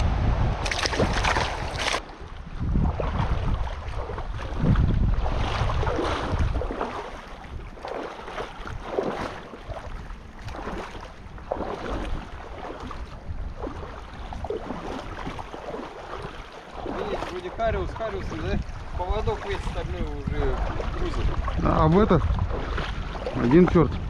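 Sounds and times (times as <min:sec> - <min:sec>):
river water rushing and splashing: 0:00.0 - 0:24.0
wind buffeting microphone: 0:00.0 - 0:24.0.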